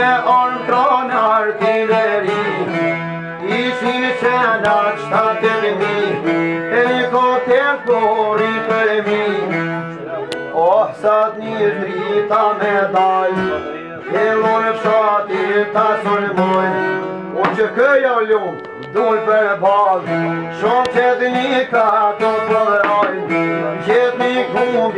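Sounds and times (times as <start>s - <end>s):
man singing folk song: 0.0s - 24.9s
plucked lute: 0.0s - 24.9s
violin: 0.0s - 24.9s.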